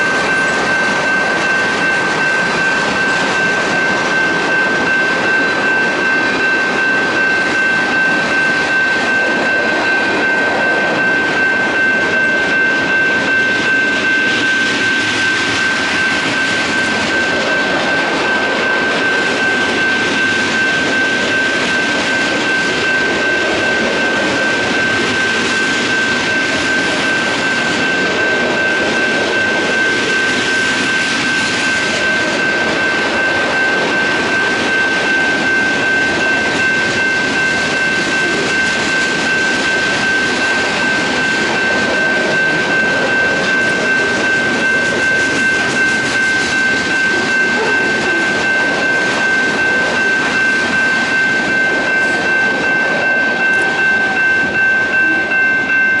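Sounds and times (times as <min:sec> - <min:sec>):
freight cars rumbling and rattling: 0:00.0 - 0:56.0.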